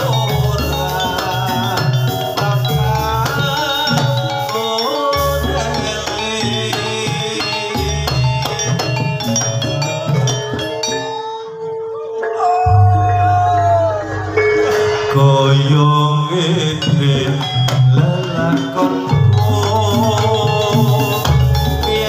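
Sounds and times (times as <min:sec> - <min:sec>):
drums: 0:00.0 - 0:11.5, 0:12.7 - 0:22.0
metallophones ringing: 0:00.0 - 0:22.0.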